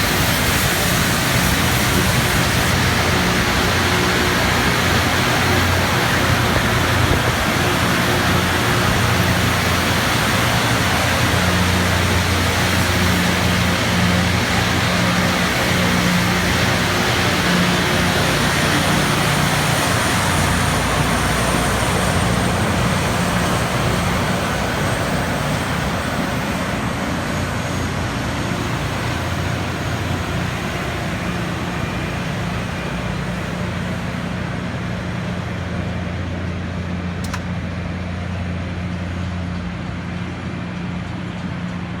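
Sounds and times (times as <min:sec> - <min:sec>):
diesel engines droning: 0:00.0 - 0:42.0
grinding stones hissing on rail: 0:00.0 - 0:42.0.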